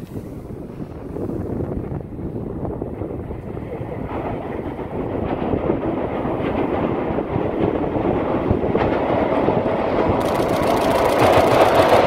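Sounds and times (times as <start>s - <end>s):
freight train rumbling on rails: 0.0s - 12.0s.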